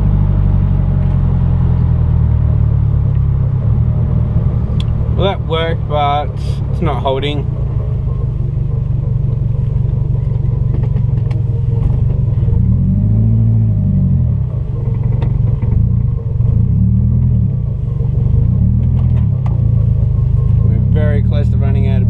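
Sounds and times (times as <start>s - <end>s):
car engine rumble from inside: 0.0s - 22.0s.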